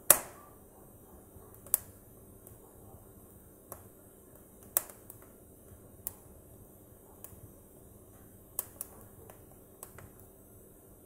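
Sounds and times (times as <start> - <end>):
fire crackling and popping: 0.0 - 0.5, 1.2 - 11.0
faint steady hiss: 0.0 - 11.0.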